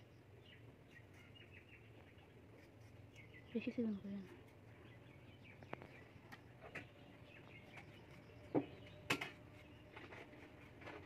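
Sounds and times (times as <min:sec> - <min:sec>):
faint bird chirps: 0:00.0 - 0:10.1.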